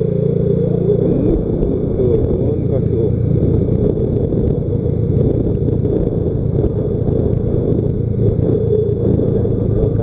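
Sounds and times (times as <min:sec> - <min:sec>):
motorcycle engine rumble: 0:00.0 - 0:10.0
wind noise on microphone: 0:00.0 - 0:10.0.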